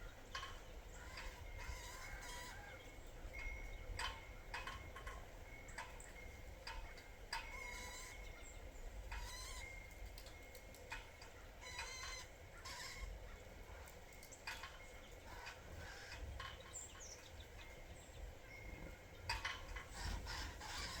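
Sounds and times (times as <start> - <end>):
wild birds calling: 0.0 - 21.0.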